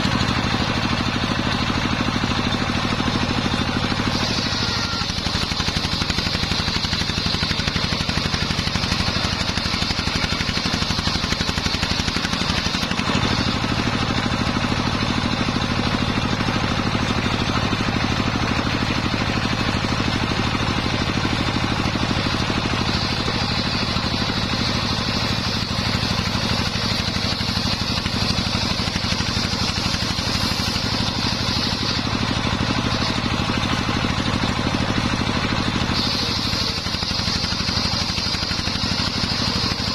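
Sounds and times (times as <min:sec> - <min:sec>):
engine-driven circular saw running: 0:00.0 - 0:39.9
saw blade whine cutting wood: 0:00.0 - 0:39.9.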